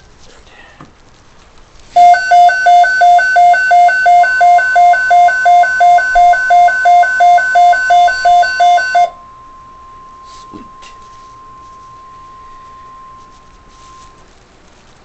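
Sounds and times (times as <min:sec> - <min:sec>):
steady alert tone: 0:02.0 - 0:14.2
two-pitch alert beeping: 0:02.0 - 0:14.2.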